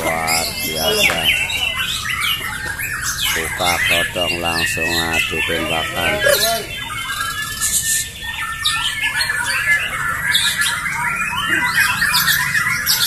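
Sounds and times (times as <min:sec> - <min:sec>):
songbirds singing rapid chirps: 0:00.0 - 0:13.0.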